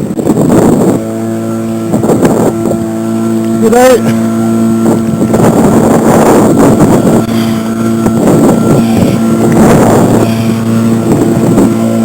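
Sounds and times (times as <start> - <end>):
outboard motor running: 0.0 - 12.0
wind on microphone: 0.0 - 12.0.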